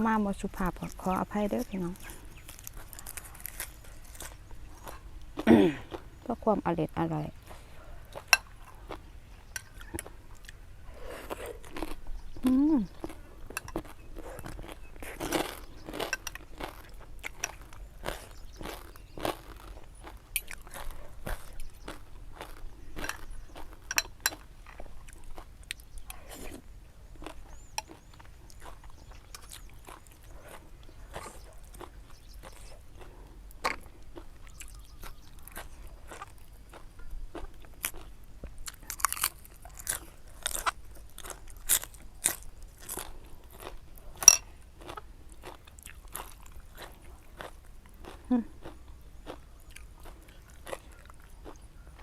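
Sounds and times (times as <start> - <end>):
person chewing crunchy food: 0.6 - 6.2, 7.4 - 52.0.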